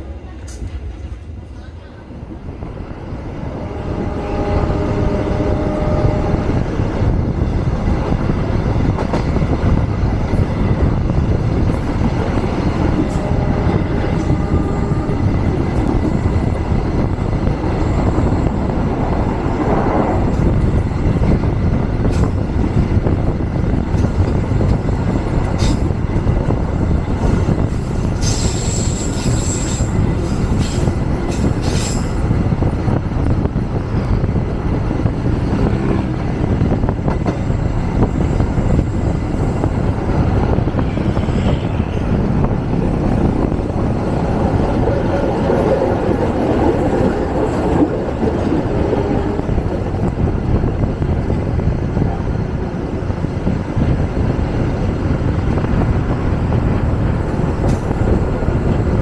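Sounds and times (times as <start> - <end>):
train wheel and track rumble: 0.0 - 59.0.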